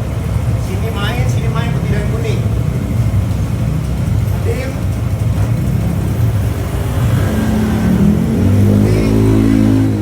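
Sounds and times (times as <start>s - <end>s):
scooter engine revving: 0.0s - 10.0s.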